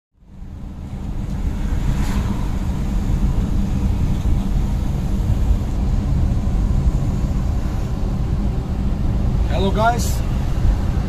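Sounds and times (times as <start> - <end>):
van engine and road noise: 0.1 - 11.0.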